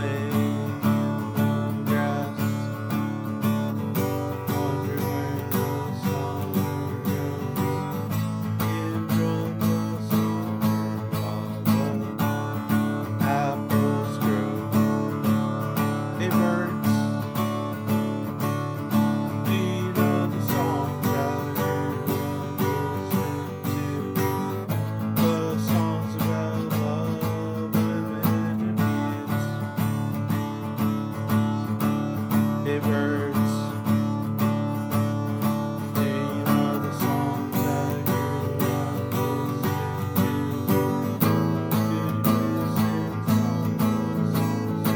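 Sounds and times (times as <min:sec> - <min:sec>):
acoustic guitar strumming: 0:00.0 - 0:44.9.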